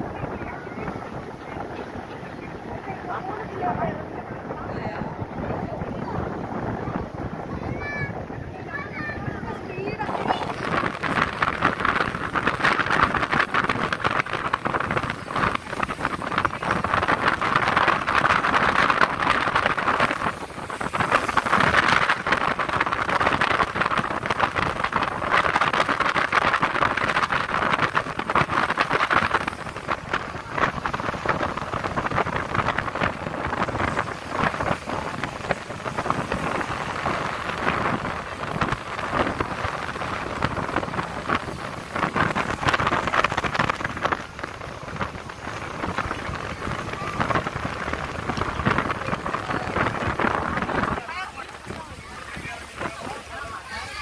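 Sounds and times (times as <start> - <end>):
water splashing along ship hull: 0.0 - 54.0
wind on microphone: 0.0 - 54.0.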